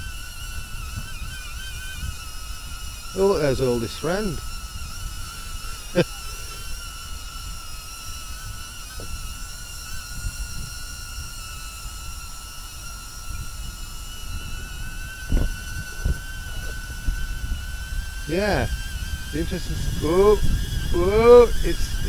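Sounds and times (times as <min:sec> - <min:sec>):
drone propellers whining: 0:00.0 - 0:22.0
wind rumbling on microphone: 0:00.0 - 0:22.0.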